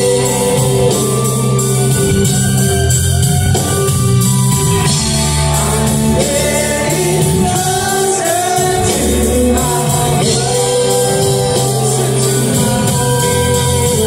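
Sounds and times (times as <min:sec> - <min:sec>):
live rock band: 0:00.0 - 0:14.0
voices singing held notes: 0:00.0 - 0:14.0.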